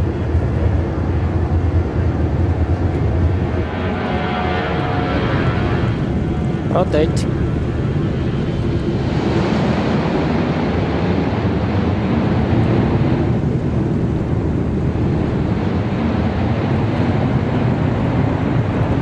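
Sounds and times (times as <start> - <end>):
jet engine and airflow rush: 0.0 - 19.0
low rumble: 0.0 - 19.0.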